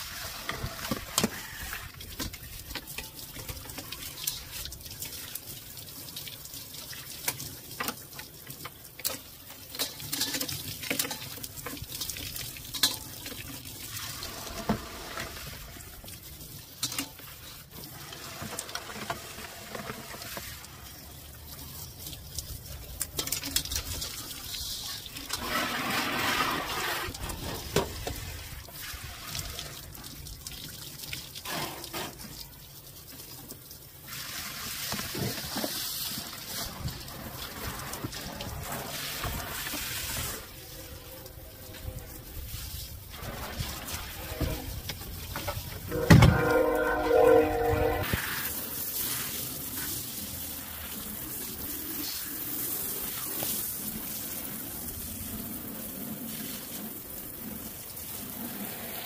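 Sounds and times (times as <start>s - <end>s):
hose water spraying and splashing: 0.0s - 59.0s.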